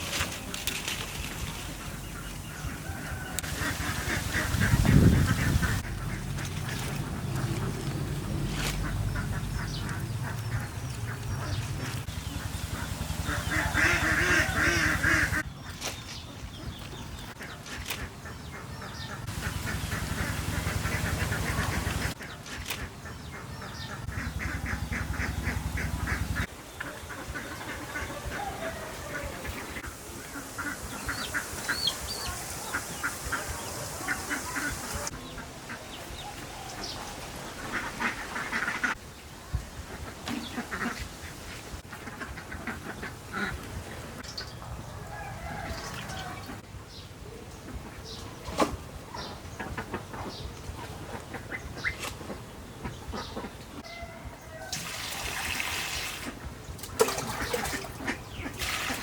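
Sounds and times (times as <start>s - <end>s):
ducks quacking: 0.0s - 15.5s, 16.5s - 39.1s, 39.8s - 44.8s, 47.6s - 54.0s, 56.2s - 59.0s.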